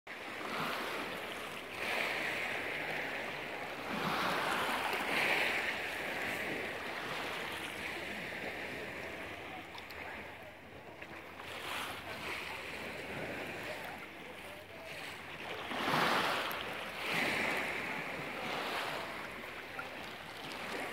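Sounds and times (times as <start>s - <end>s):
waves washing over pebbles: 0.1s - 20.9s.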